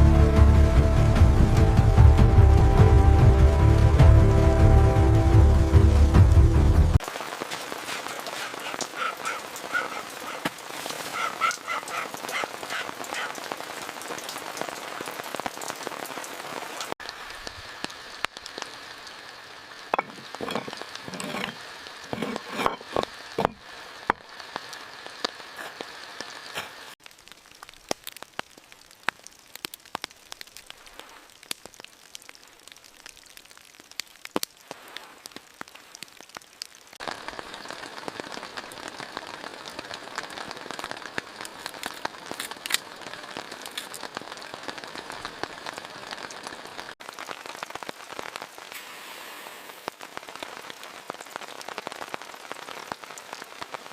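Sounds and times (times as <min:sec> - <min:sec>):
heavy rain pattering: 0:05.9 - 0:53.9.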